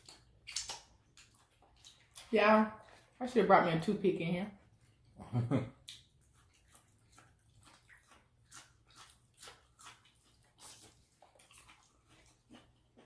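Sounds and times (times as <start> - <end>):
chewing and wet mouth smacks: 0.0 - 3.2, 4.6 - 13.0.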